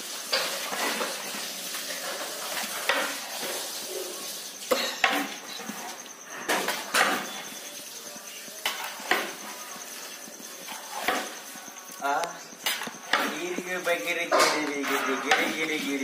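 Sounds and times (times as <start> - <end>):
food sizzling: 0.0 - 16.0
metal spatula scraping pot: 0.3 - 7.7, 8.6 - 11.6, 12.6 - 16.0.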